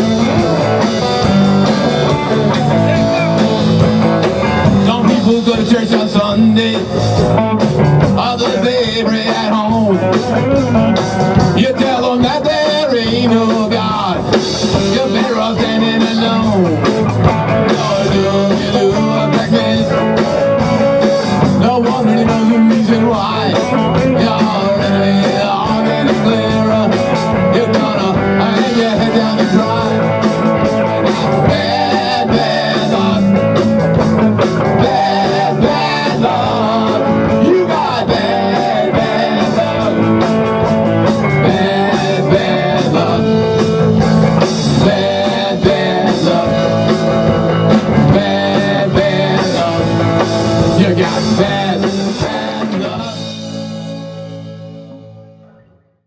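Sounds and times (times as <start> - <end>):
rock band playing live: 0.0 - 55.9.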